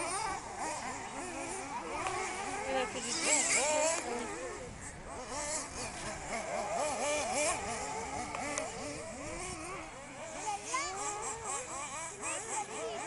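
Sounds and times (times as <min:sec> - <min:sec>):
rc car engines revving: 0:00.0 - 0:13.0.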